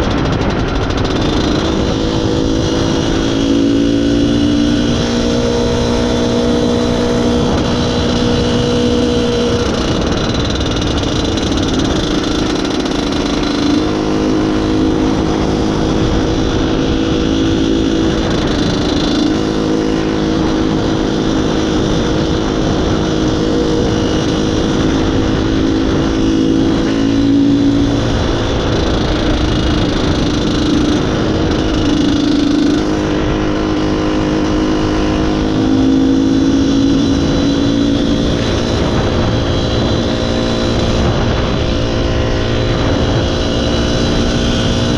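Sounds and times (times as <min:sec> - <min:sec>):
two-stroke motorcycle engine running: 0:00.0 - 0:44.9.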